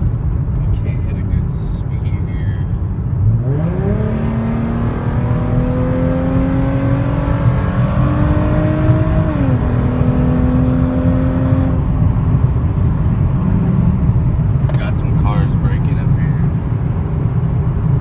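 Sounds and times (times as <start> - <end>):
car engine accelerating: 0.0 - 18.0
road rumble: 0.0 - 18.0.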